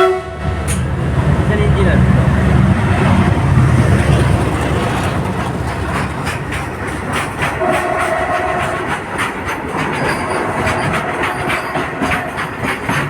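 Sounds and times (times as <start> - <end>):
locomotive engine rumble: 0.0 - 12.7
train wheels clacking over rail joints: 0.4 - 13.0.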